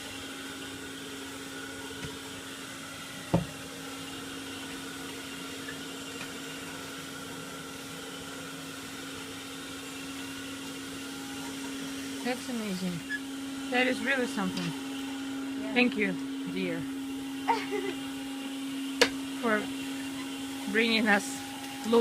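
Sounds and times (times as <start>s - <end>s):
vacuum cleaner humming: 0.0s - 22.0s.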